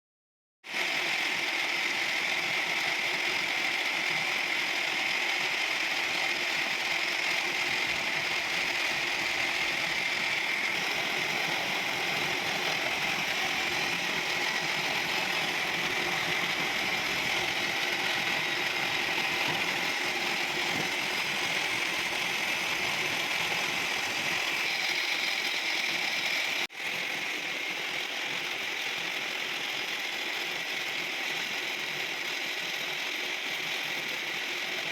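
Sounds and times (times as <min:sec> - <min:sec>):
machine tool whirring: 0:00.7 - 0:34.9.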